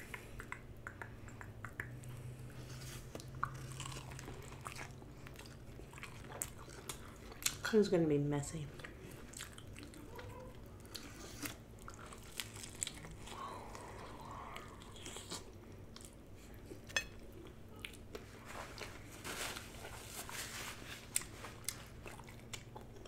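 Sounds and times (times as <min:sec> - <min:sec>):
wet chewing with crunches: 0:01.8 - 0:07.8, 0:08.7 - 0:23.0.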